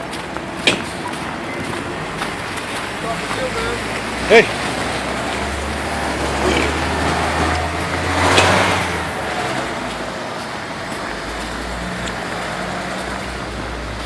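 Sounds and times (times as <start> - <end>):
low traffic rumble: 0.0 - 14.0
vehicle driving past: 1.9 - 14.0.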